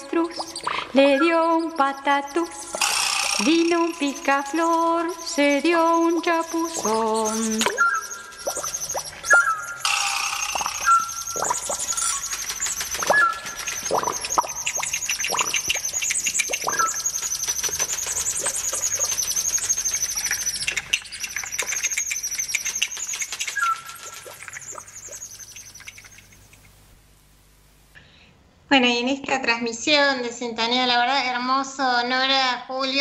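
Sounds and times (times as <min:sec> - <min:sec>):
small birds chirping: 0:00.0 - 0:26.9.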